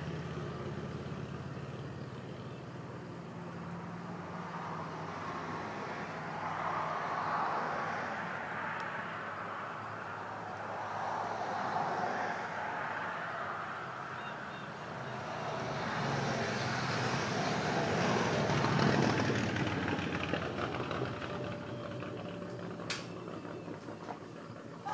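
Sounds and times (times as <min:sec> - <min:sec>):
motorcycle passing by: 0:00.0 - 0:24.9.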